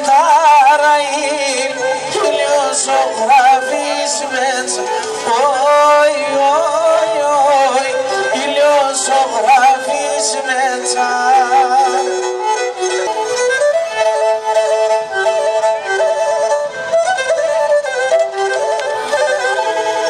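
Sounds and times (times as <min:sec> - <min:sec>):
bowed lyra folk melody: 0:00.0 - 0:20.0.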